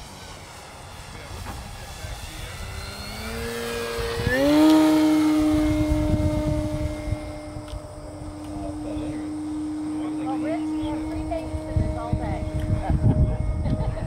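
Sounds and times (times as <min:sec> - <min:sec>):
model plane motor whine: 0:00.0 - 0:14.0.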